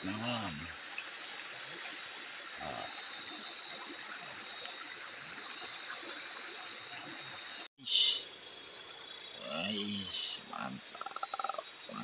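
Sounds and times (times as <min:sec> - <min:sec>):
insect chorus trilling: 0:00.0 - 0:12.0.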